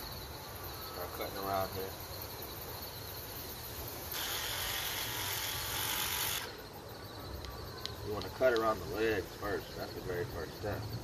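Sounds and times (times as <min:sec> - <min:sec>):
crickets chirping: 0:00.0 - 0:11.0
steady hiss: 0:00.0 - 0:11.0.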